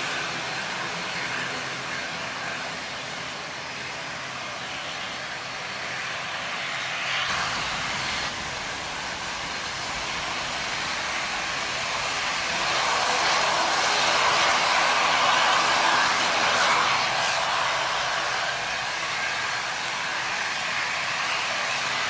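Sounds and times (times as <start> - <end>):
airliner engines: 0.0 - 22.0.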